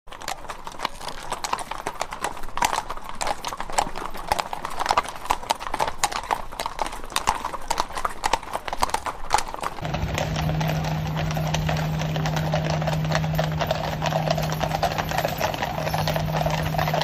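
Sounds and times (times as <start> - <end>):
horse hooves clopping on asphalt: 0.1 - 17.0.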